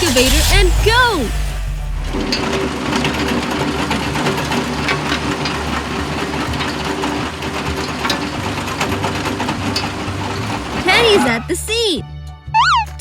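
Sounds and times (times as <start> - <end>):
excavator engine rattling: 0.0 - 12.1.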